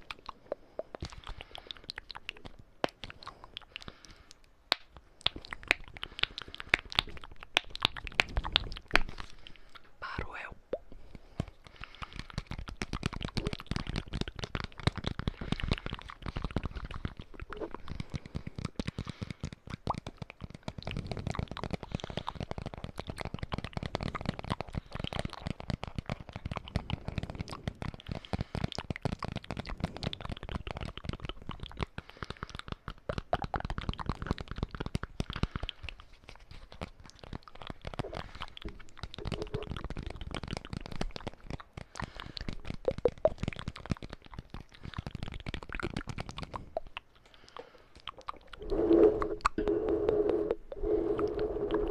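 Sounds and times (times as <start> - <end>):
fast taps and clicks: 0.0 - 9.9, 10.7 - 51.9.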